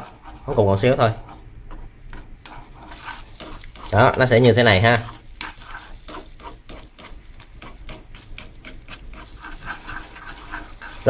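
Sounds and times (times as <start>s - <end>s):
eggs frying in pan: 0.0s - 11.0s
utensil scraping and tapping pan: 0.0s - 11.0s.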